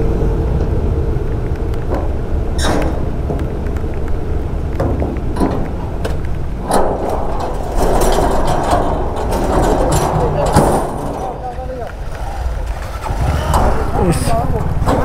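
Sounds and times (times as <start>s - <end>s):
steady low rumble: 0.0s - 15.0s
metallic clanks and knocks: 1.6s - 11.9s, 13.0s - 15.0s.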